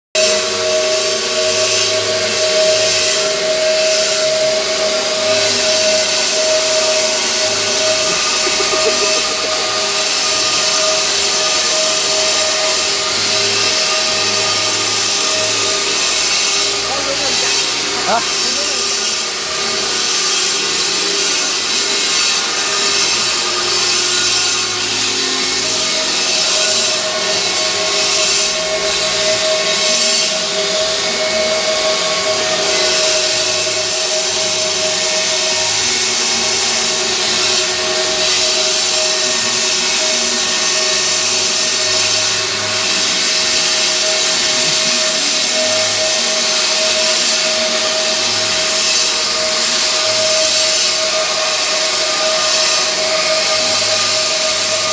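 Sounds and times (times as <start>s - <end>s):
router spindle whine: 0.2s - 54.9s
bit grinding stone: 2.6s - 54.8s.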